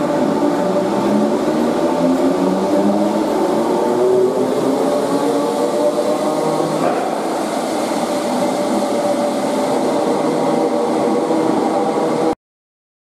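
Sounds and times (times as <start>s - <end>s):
train wheels rumbling: 0.0s - 12.4s.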